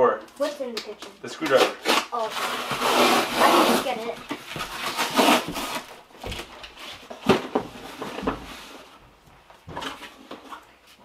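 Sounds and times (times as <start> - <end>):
cardboard rustling: 1.8 - 10.6.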